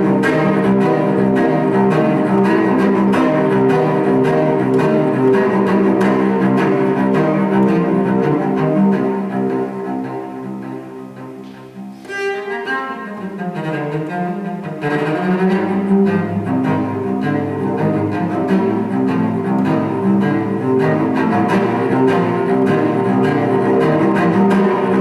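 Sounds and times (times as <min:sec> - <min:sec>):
bowed cello playing tango: 0:00.0 - 0:25.0.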